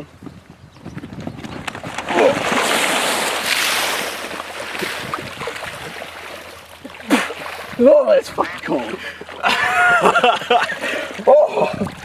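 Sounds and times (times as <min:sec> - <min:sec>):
water splashing and sloshing: 0:01.0 - 0:12.0.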